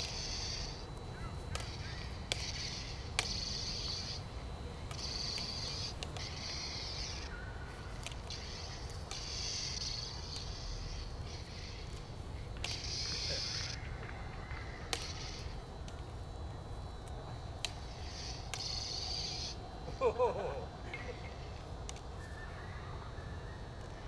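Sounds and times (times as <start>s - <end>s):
toy light saber buzzing: 0.0s - 22.4s.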